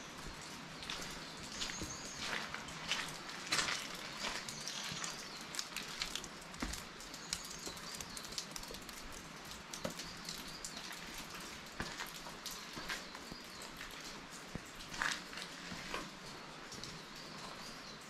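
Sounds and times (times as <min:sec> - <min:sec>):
raindrops ticking: 0:00.0 - 0:18.0
steady rain hiss: 0:00.0 - 0:18.0.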